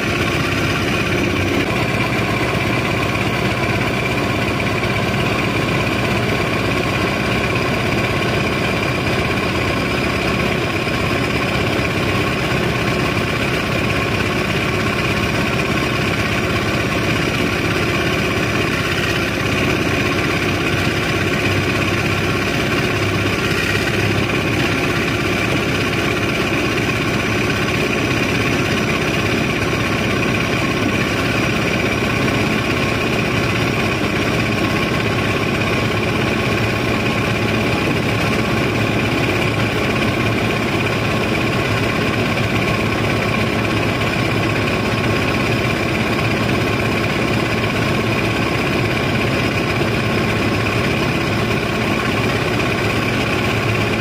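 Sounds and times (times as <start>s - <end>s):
machinery engine drone: 0.0s - 54.0s.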